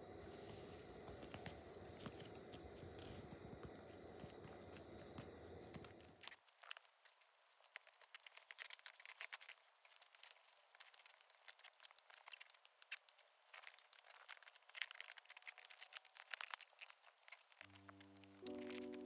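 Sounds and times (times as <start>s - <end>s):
tortoises crunching lettuce: 0.0s - 19.0s.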